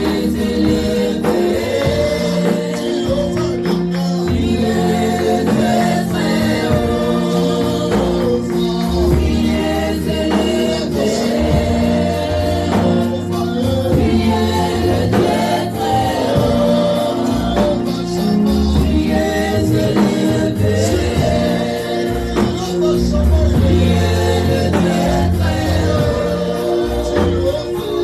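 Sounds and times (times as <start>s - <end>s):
choir singing: 0.0s - 28.0s
instrumental backing: 0.0s - 28.0s.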